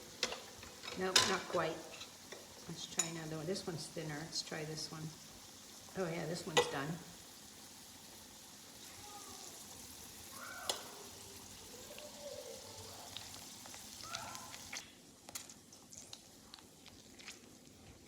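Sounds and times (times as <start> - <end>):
chicken frying in a pan: 0.0 - 18.0.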